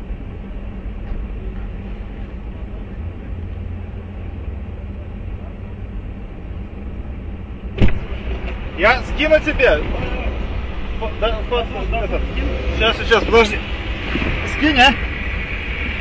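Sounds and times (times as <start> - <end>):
idling traffic rumble: 0.0 - 16.0.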